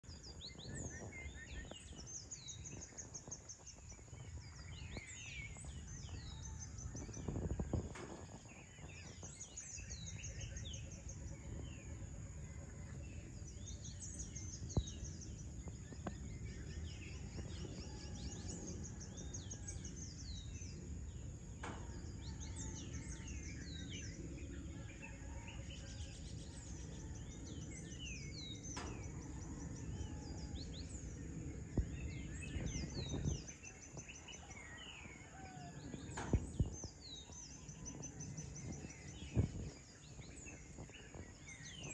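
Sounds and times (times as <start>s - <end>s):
birds chirping: 0.0s - 41.9s
low background rumble: 0.1s - 41.9s.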